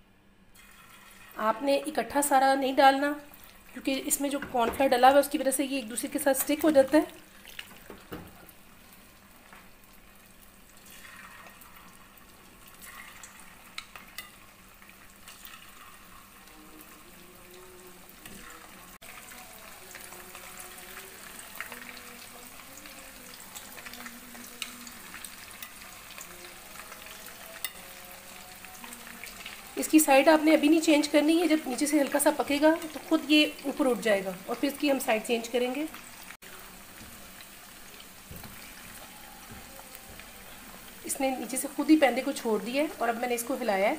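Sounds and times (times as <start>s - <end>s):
chicken sizzling in hot oil: 0.6s - 43.9s.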